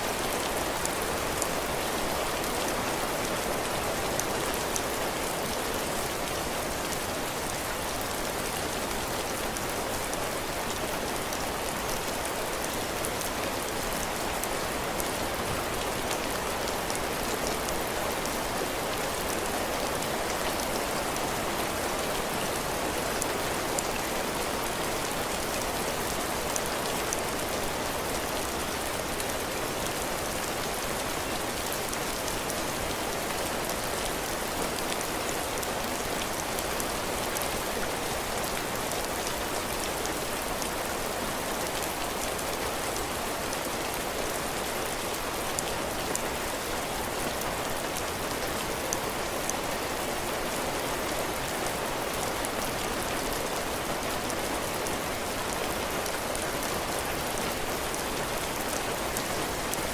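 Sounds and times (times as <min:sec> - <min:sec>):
heavy rain falling: 0:00.0 - 0:59.9
raindrops striking roof and ground: 0:00.0 - 0:59.9.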